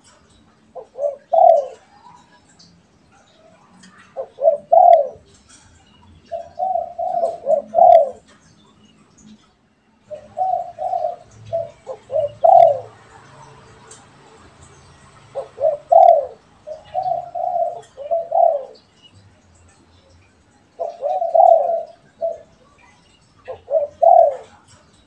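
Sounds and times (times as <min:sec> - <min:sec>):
doves cooing: 0:00.0 - 0:08.5, 0:10.0 - 0:19.0, 0:20.6 - 0:25.0
faint bird chirps: 0:00.0 - 0:14.0, 0:14.6 - 0:25.0.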